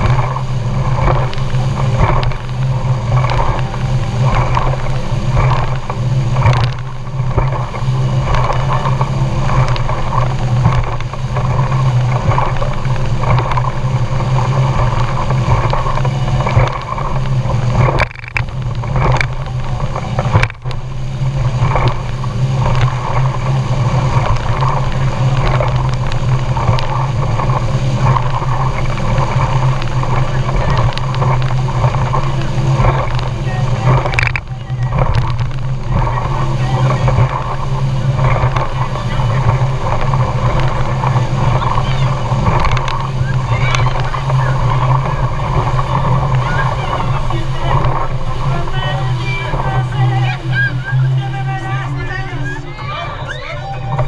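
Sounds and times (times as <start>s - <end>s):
constant rushing noise: 0.0s - 54.0s
motorboat engine droning: 0.0s - 54.0s.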